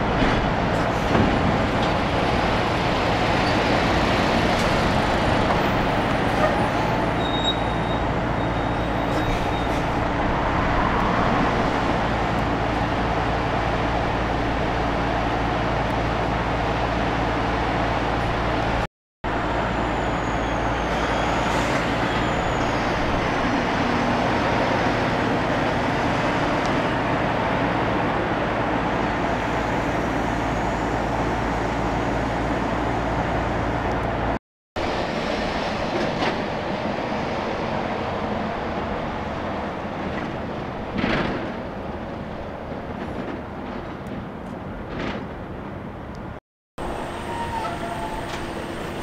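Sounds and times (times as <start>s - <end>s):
trucks driving past: 0.0s - 49.0s.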